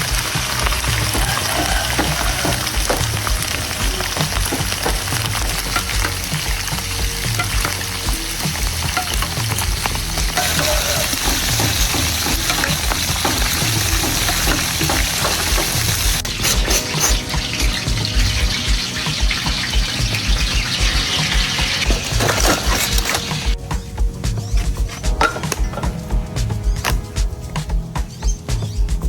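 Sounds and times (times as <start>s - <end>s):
food frying in hot oil: 0.0s - 23.6s.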